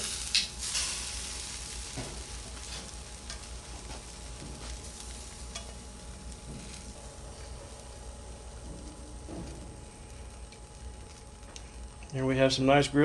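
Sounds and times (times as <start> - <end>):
chicken wings sizzling on grill: 0.0 - 13.0.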